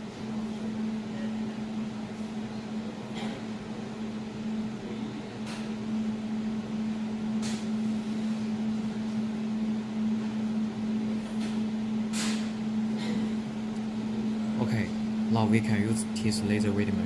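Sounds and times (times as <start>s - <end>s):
laser welding machine humming: 0.0s - 17.0s.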